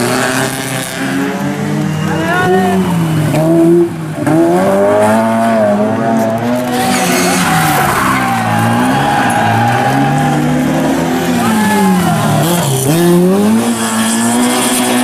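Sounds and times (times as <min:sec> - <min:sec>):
car engine revving hard: 0:00.0 - 0:15.0
tyres skidding: 0:00.0 - 0:15.0.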